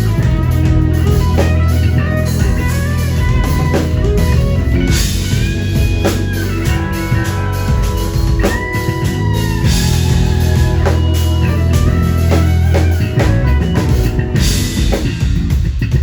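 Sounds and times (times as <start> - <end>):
drum kit: 0.0 - 16.0
guitar: 0.0 - 16.0
live rock band playing: 0.0 - 16.0.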